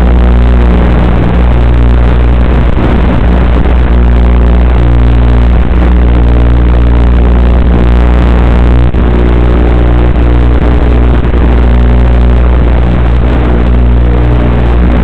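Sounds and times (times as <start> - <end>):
loud low electrical buzz: 0.0 - 15.0.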